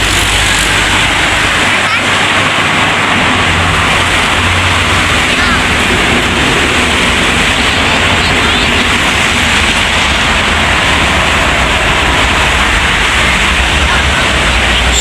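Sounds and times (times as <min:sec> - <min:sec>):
heavy road traffic roaring: 0:00.0 - 0:15.0.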